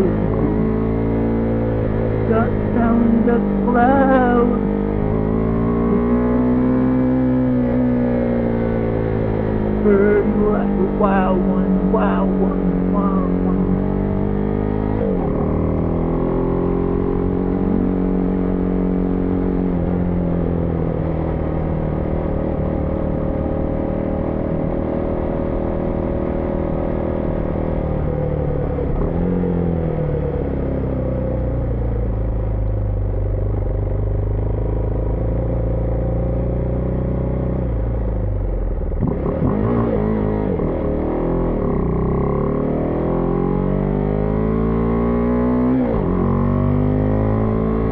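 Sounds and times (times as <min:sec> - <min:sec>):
motorcycle engine while riding: 0:00.0 - 0:47.9.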